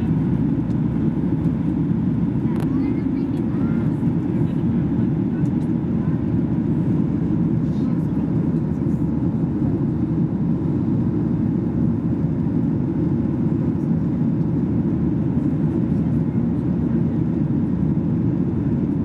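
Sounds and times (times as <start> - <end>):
airplane cabin noise: 0.0 - 19.0
jet engines: 0.0 - 19.0.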